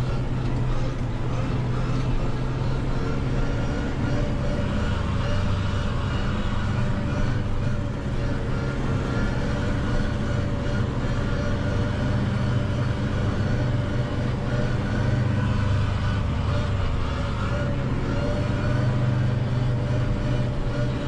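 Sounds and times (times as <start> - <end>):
mower drive running: 0.0 - 21.0
tractor diesel engine running: 0.0 - 21.0.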